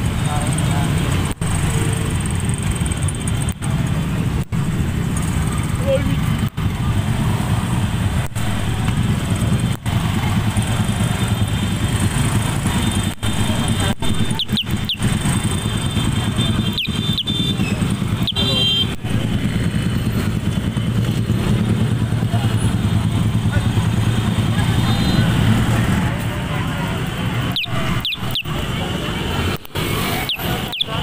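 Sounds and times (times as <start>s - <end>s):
motorcycle engines idling: 0.0s - 31.0s.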